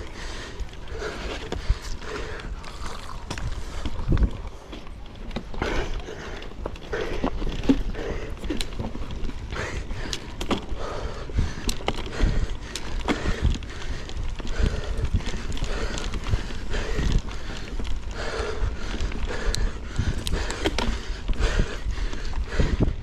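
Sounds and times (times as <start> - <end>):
bike rattling over bumps: 0.0 - 23.0
bike tyres rolling over dirt: 0.0 - 23.0.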